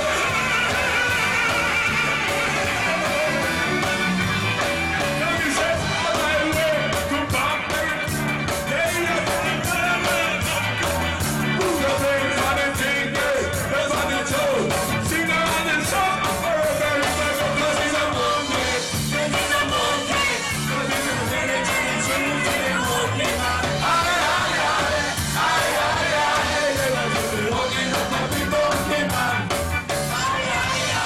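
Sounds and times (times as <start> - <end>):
ska band playing: 0.0 - 31.0
person singing into a microphone: 5.0 - 31.0.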